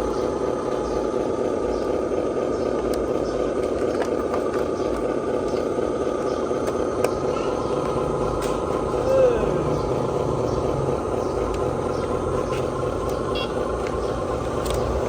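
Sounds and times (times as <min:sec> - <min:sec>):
model truck motors whining: 0:00.0 - 0:15.0.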